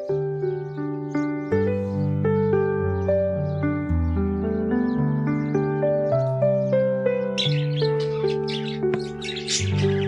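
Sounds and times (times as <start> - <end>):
calm instrumental music: 0.0 - 10.0.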